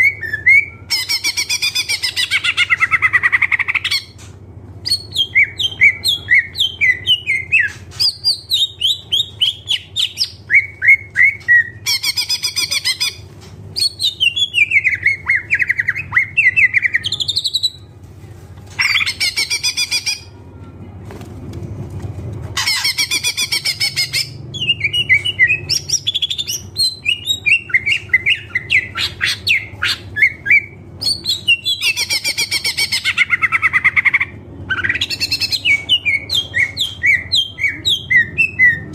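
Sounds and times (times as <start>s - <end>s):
bird singing with buzzy trills: 0.0s - 4.2s, 4.8s - 17.9s, 18.8s - 20.4s, 22.6s - 38.9s.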